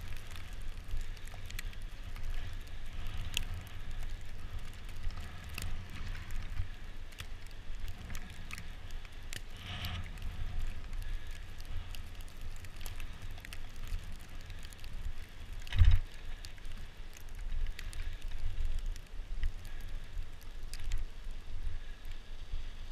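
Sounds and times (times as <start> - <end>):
small clicks and rattles: 0.0 - 21.1
bicycle tyres crunching snow: 0.0 - 22.9
wind rumbling on microphone: 0.0 - 22.9.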